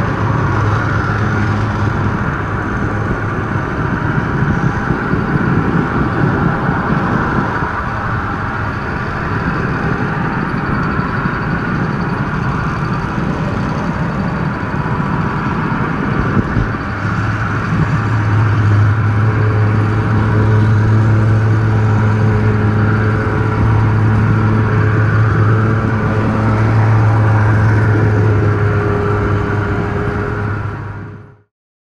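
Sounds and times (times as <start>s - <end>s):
model train running on track: 0.0s - 31.4s
strong low hum: 0.0s - 31.4s.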